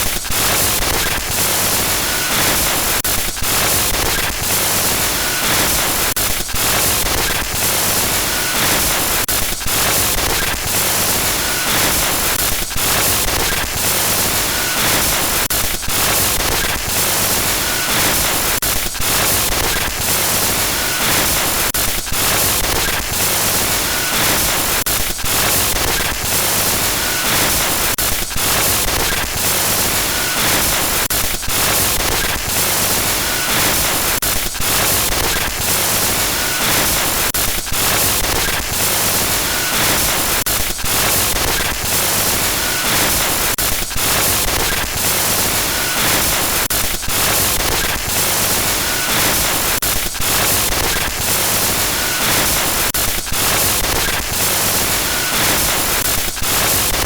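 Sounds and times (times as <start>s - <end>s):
glitchy static noise: 0.0s - 57.0s.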